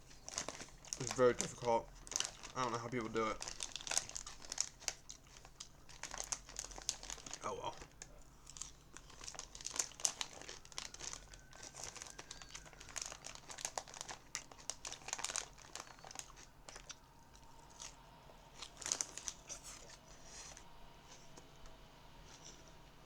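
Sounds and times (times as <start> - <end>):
plastic bag crinkling: 0.0 - 21.4, 22.2 - 22.7.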